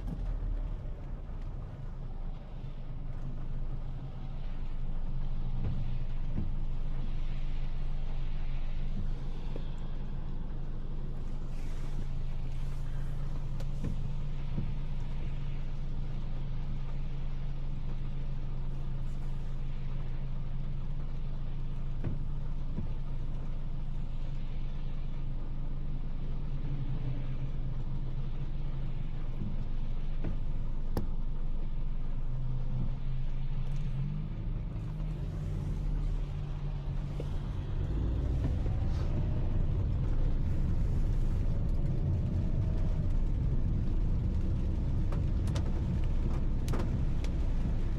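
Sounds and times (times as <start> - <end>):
car engine hum: 0.0 - 47.9
road noise: 0.0 - 47.9.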